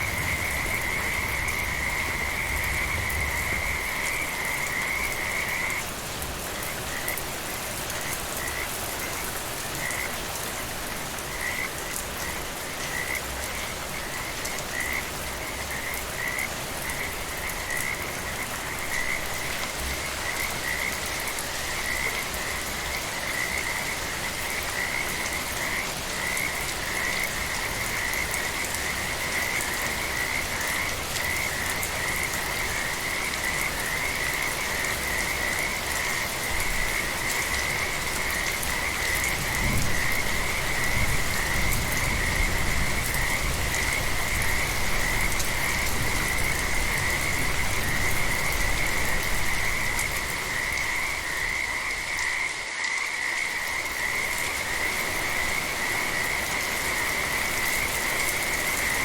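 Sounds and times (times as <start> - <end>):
frogs trilling: 0.0 - 5.9, 11.2 - 59.0
gentle rain: 0.0 - 59.0.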